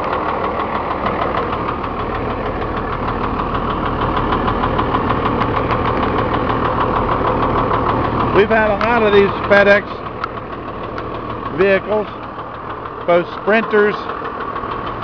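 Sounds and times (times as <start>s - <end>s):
diesel engine idling: 0.0s - 15.0s
rapid knocking clatter: 0.0s - 15.0s.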